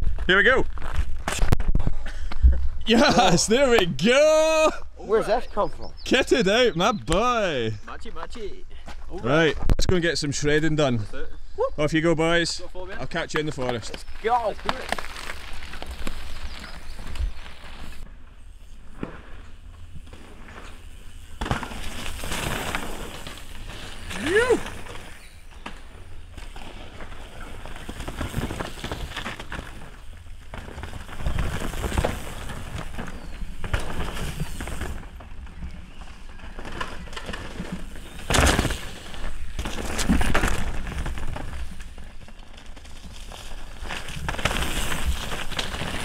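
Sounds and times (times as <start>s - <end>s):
crackling twigs and dirt: 0.0s - 2.9s, 10.5s - 46.0s
bike tyres on dirt trail: 0.0s - 9.6s, 10.2s - 46.0s.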